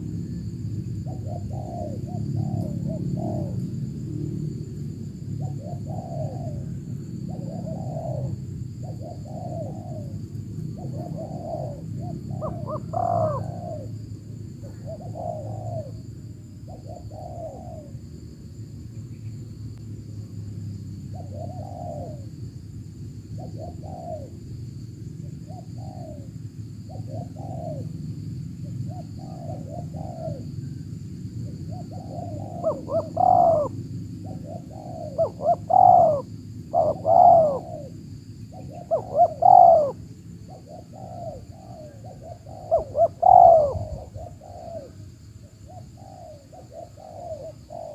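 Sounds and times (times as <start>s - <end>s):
doves cooing: 1.0s - 4.8s, 5.4s - 18.2s, 21.1s - 22.4s, 23.3s - 24.5s, 25.2s - 47.9s.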